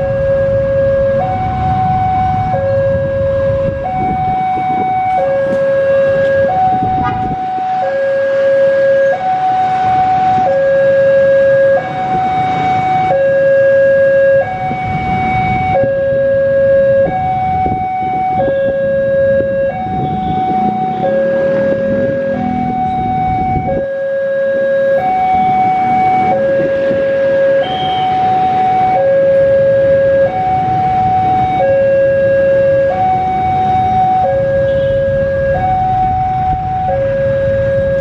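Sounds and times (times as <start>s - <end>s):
level-crossing alarm two-tone: 1.2s - 38.0s.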